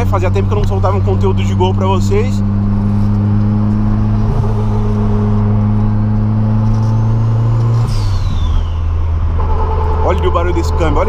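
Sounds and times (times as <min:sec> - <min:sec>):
car engine droning under load: 0:00.0 - 0:11.0.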